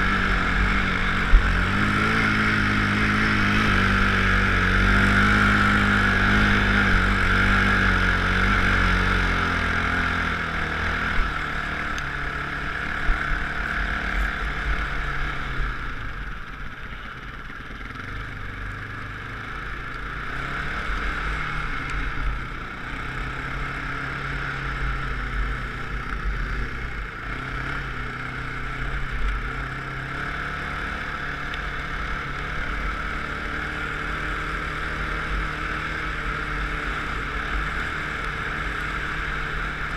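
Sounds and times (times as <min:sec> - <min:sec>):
off-road vehicle engine revving: 0:00.0 - 0:16.2, 0:17.9 - 0:39.9.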